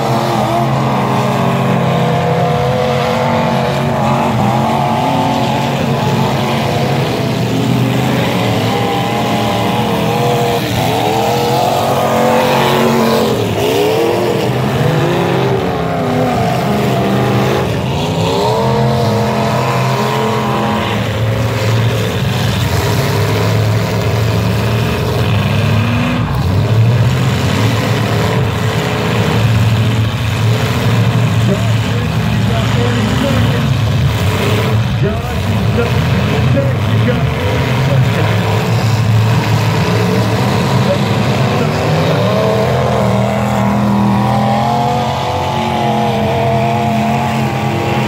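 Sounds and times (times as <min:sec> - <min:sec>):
car engines revving hard: 0:00.0 - 0:48.0.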